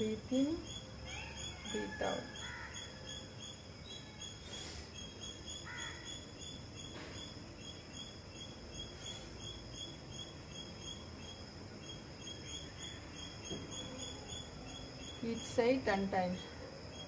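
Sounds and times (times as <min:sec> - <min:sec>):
insects chirring trill: 0:00.0 - 0:17.0.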